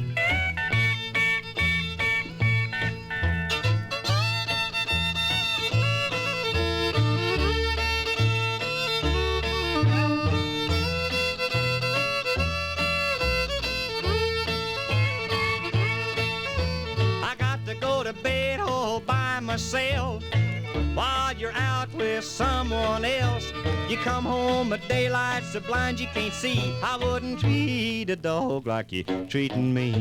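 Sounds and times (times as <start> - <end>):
sliding lead melody: 0.0 - 28.0
walking bass: 0.0 - 30.0.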